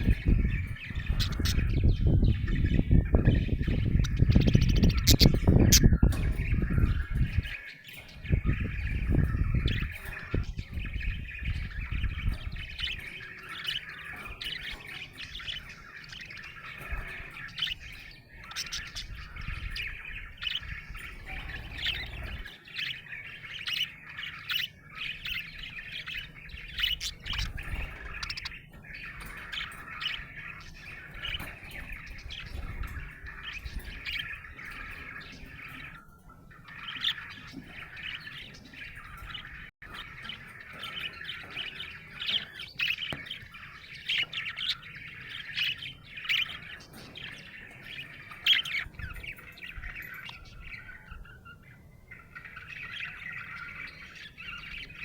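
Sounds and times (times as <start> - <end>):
budgerigar chirping and warbling: 0.0 - 55.0.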